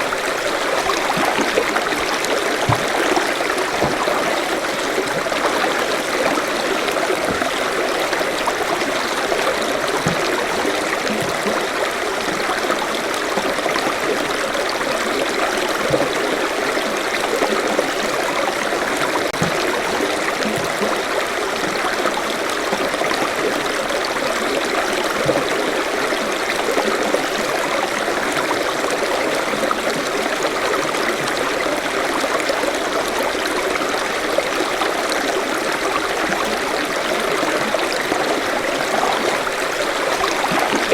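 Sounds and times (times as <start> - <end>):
stream water rushing over rocks: 0.0 - 40.9
water splashes and gurgles: 0.0 - 40.9.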